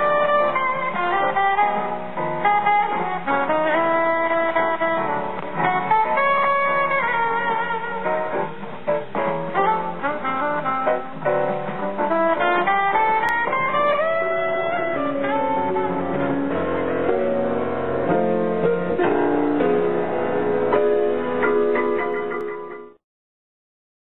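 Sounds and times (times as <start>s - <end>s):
alto saxophone: 0.0s - 19.6s
jazz piano: 0.0s - 23.0s.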